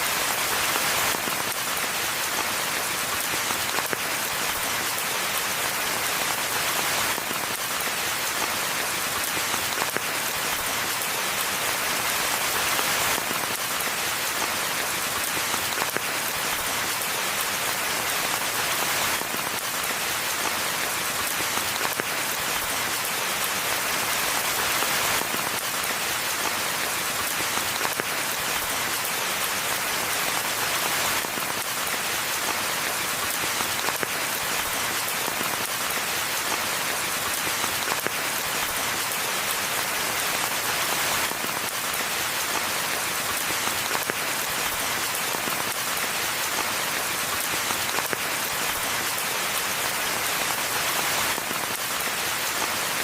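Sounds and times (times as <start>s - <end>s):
rain falling in a forest: 0.0s - 53.0s.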